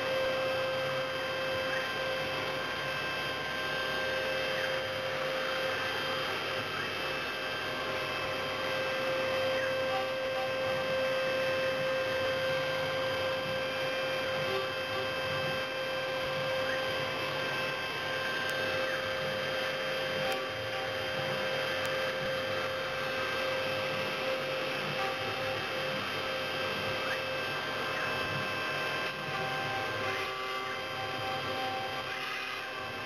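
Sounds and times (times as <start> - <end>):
milling machine spindle whine: 0.0 - 33.0.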